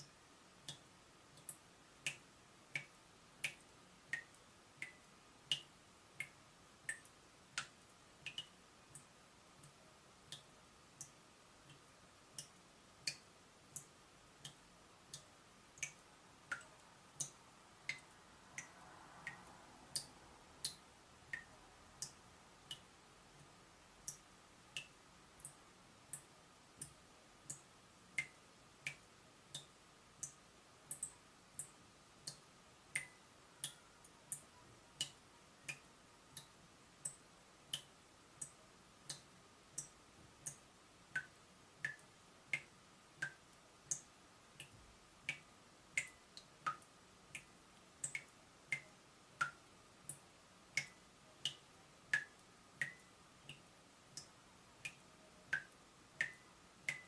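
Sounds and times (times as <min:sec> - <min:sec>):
water dripping from tap: 0:00.0 - 0:57.0.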